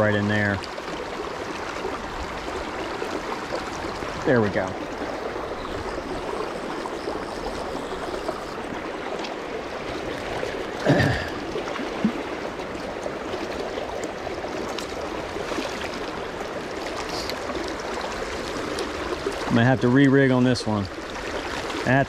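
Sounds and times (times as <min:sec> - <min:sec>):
river current running: 0:00.0 - 0:22.0.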